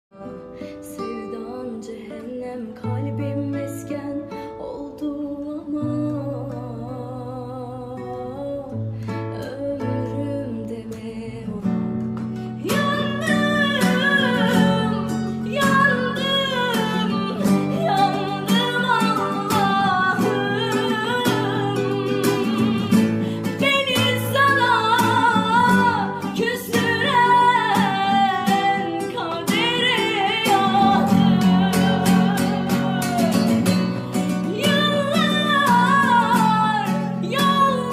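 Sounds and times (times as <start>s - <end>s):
plucked guitar: 0.1s - 37.9s
woman singing: 0.1s - 37.9s.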